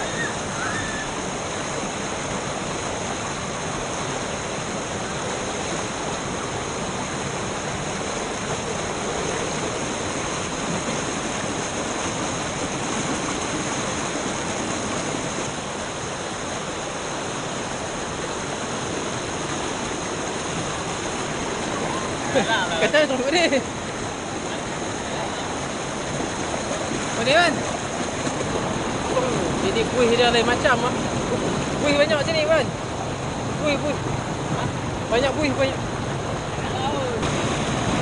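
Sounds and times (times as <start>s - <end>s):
flowing water rushing: 0.0s - 38.0s.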